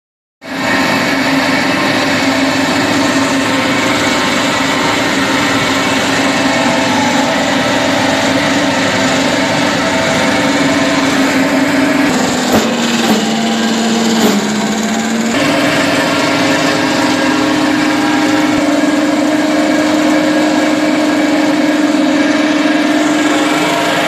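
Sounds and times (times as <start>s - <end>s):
sawdust machine whirring: 0.4s - 24.0s.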